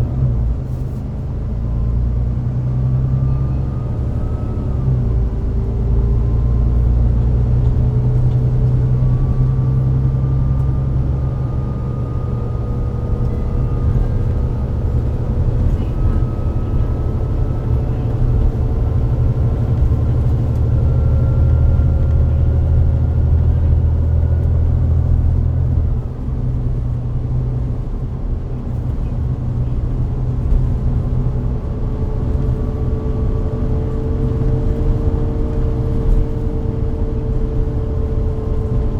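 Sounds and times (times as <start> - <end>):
low bus engine rumble: 0.0 - 38.9.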